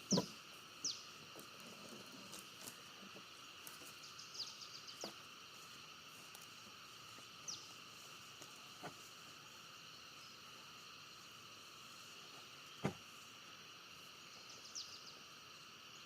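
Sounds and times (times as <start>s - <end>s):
insect chorus: 0.0s - 16.0s.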